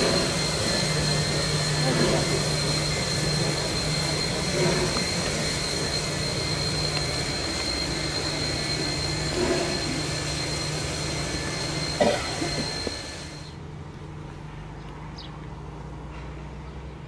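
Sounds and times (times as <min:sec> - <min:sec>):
steam hiss and rumble: 0:00.0 - 0:14.5
constant high whine: 0:00.0 - 0:17.0.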